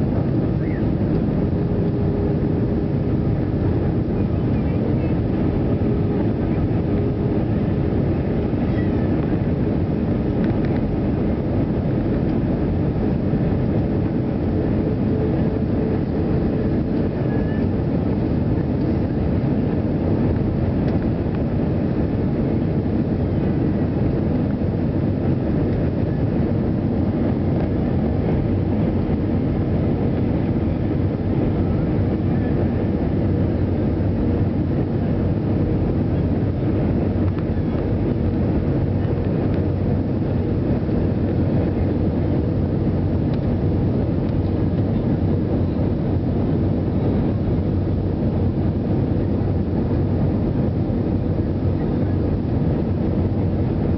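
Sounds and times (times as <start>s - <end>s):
jet engine cabin drone: 0.0s - 53.9s.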